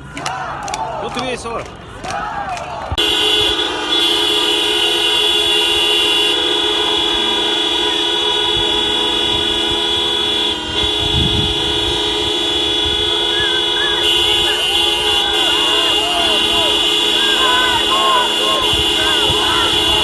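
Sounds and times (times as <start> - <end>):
car horns honking: 2.9 - 20.0.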